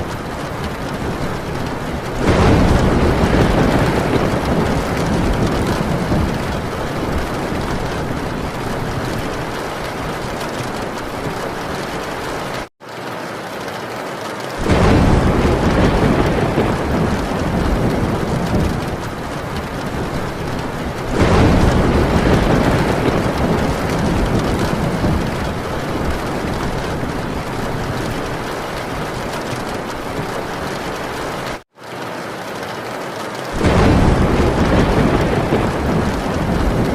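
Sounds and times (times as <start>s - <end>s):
thunder rolling: 0.0s - 12.7s, 14.6s - 31.6s, 33.6s - 36.9s
heavy rain on a tin roof: 0.0s - 36.9s.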